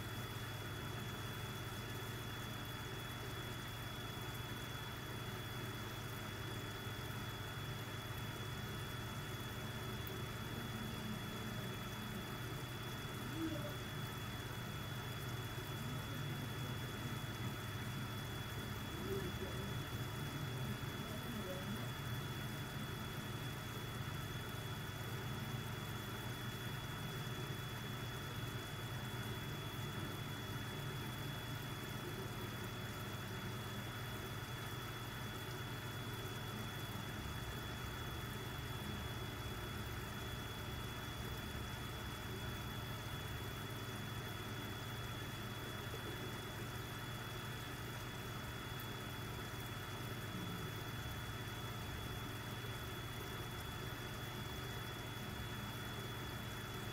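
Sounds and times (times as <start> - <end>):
air pump humming with whine: 0.0 - 56.9.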